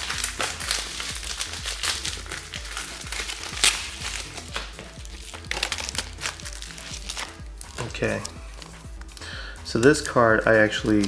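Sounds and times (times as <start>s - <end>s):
background music: 0.0s - 11.0s
plastic packaging crinkling: 0.0s - 11.0s.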